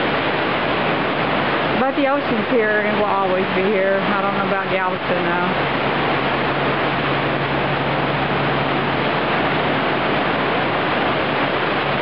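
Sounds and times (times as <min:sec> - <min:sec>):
surf breaking around pilings: 0:00.0 - 0:12.0.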